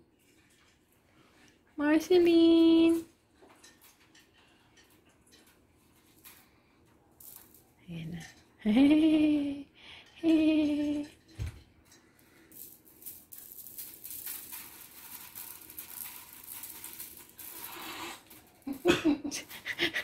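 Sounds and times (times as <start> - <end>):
bead garland rattling on tile floor: 0.2 - 9.3, 10.2 - 20.0.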